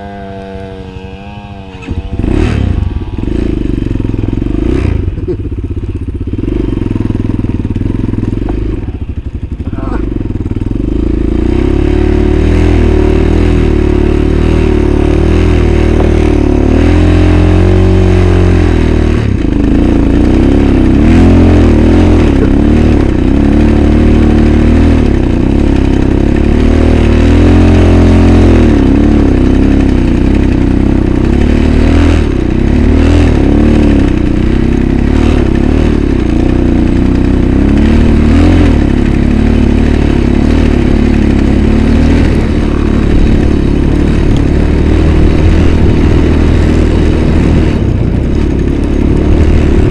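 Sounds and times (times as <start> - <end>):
off-road engine revving: 0.0 - 49.9.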